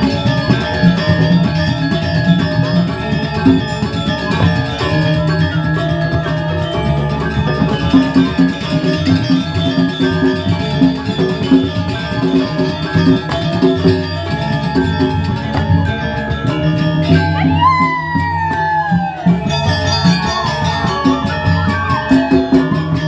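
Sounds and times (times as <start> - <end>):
drums: 0.0 - 23.0
metallophones ringing: 0.0 - 23.0.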